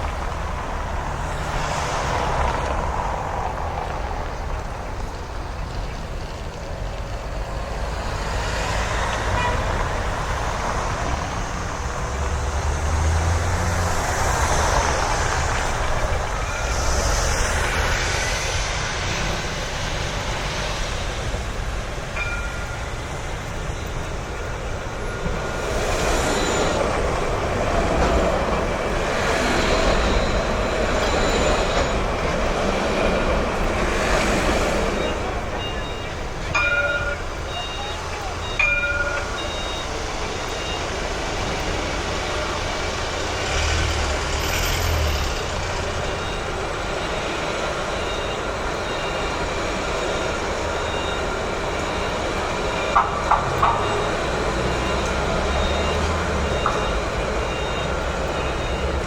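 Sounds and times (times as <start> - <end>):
vehicles passing: 0.0 - 59.0.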